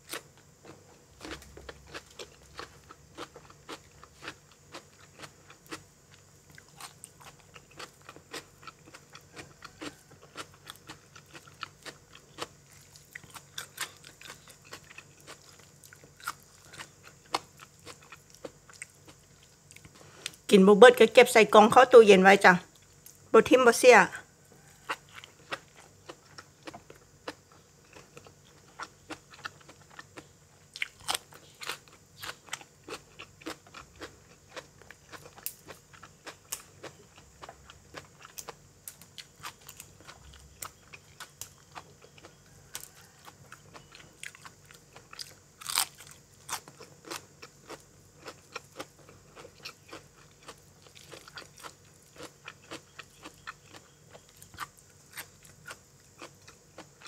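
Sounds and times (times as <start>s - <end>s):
crunching raw vegetables: 0.0s - 20.5s, 24.6s - 57.0s.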